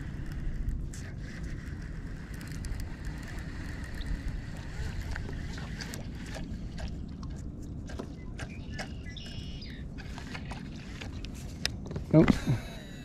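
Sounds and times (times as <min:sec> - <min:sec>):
faint high hum: 0:00.0 - 0:13.0
wind rumbling on microphone: 0:00.0 - 0:13.0.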